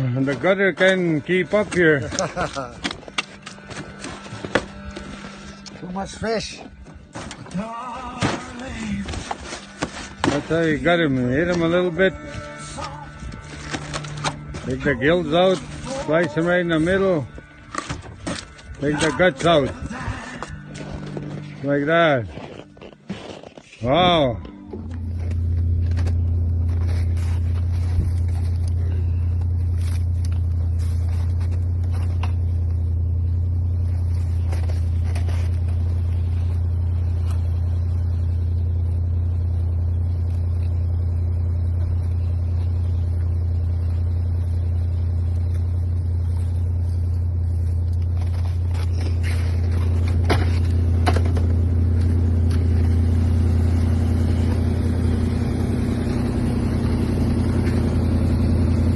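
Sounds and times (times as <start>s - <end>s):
engine droning steadily: 0.0s - 58.9s.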